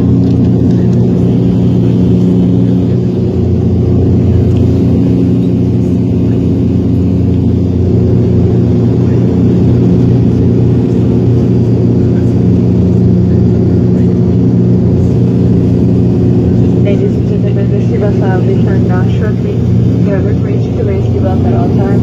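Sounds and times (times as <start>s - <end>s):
turboprop engine drone in cabin: 0.0s - 22.0s.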